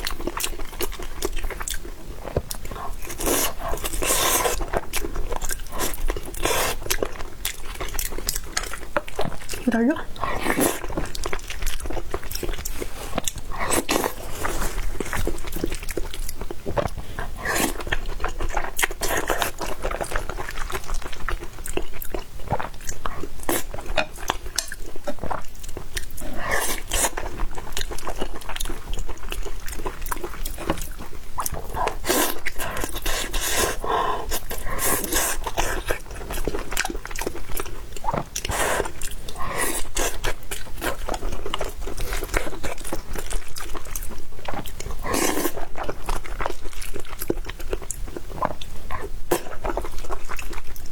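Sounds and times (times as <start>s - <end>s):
person chewing with mouth clicks: 0.0s - 50.9s.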